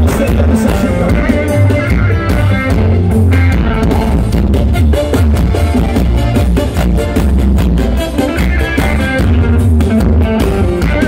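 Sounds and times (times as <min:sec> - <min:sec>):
heavy bass line: 0:00.0 - 0:11.0
live band playing: 0:00.0 - 0:11.0.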